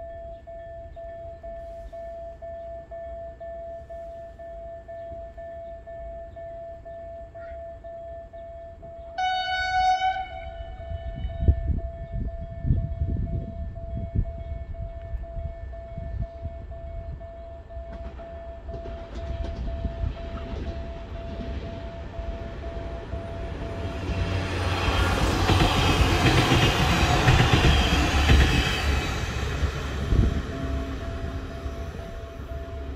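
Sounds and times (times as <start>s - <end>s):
crossing warning signal pulsing: 0.0s - 32.9s
train passing: 0.0s - 32.9s.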